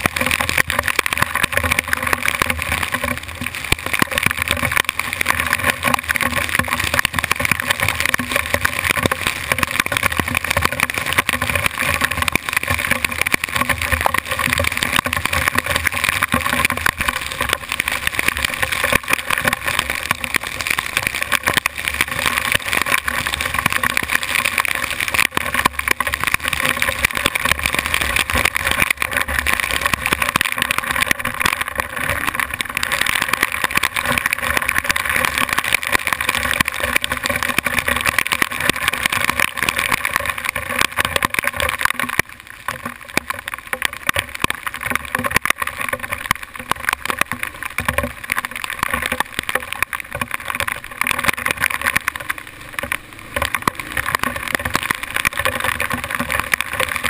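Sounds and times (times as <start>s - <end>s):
hail and rain pelting helmet: 0.0s - 57.0s.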